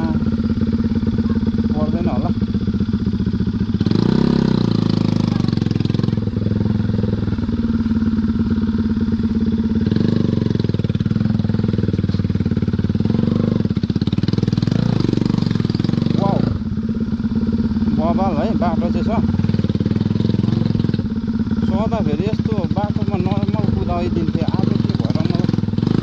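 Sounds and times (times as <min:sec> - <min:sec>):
motorcycle engine running slowly: 0:00.0 - 0:26.0.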